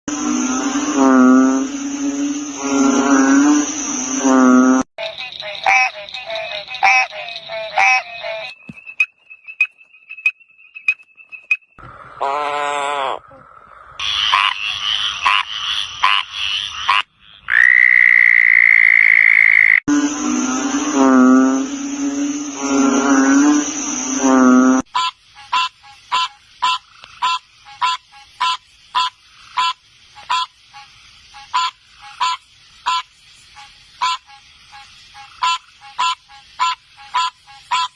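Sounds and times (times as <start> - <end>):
frogs calling: 0.1 - 11.1, 12.0 - 37.9.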